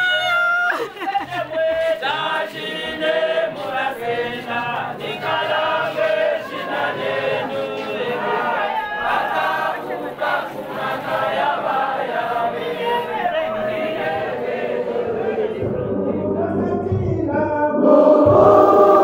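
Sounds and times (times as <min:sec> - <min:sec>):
women's choir singing a hymn: 0:00.8 - 0:17.0, 0:17.8 - 0:19.0.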